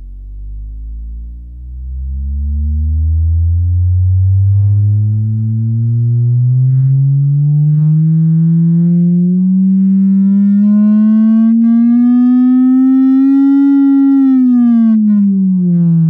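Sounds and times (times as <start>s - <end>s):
distorted sine-wave sweep tone: 0.0s - 16.0s.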